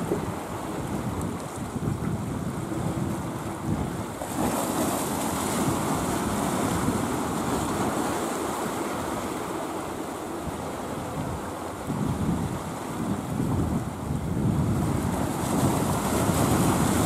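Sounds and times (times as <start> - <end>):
wind on the microphone: 0.0 - 9.5, 10.3 - 17.0
sea waves washing: 0.0 - 17.0.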